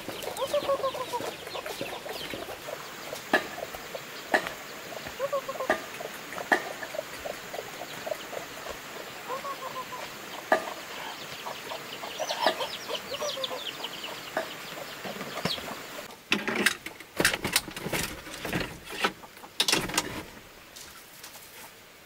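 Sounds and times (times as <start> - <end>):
chickens clucking: 0.0 - 21.8.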